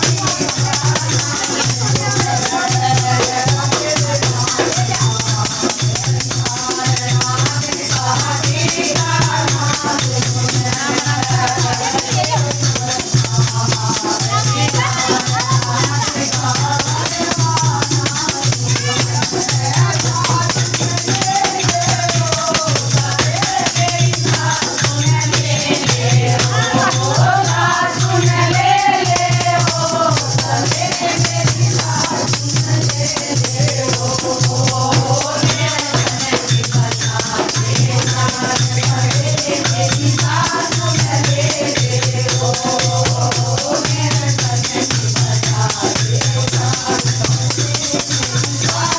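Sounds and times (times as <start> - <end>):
jingling hand percussion: 0.0 - 48.9
voices singing: 0.0 - 48.9.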